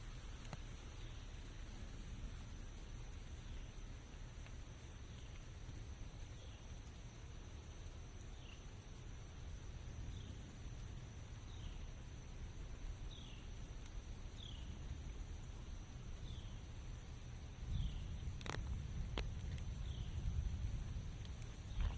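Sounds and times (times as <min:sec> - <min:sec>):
high insect drone: 0:00.0 - 0:21.9
rain hiss: 0:00.0 - 0:21.9.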